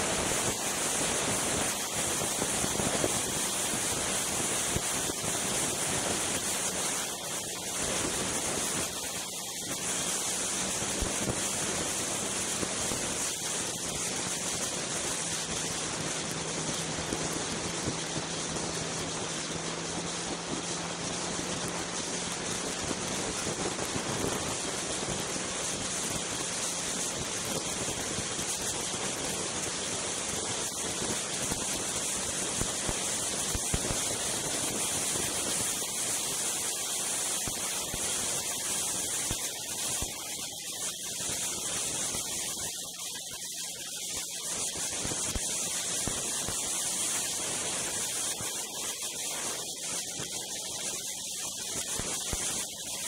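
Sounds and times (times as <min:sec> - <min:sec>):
wind rushing on microphone: 0:00.0 - 0:42.9
snowmobile engine running: 0:00.0 - 0:52.8.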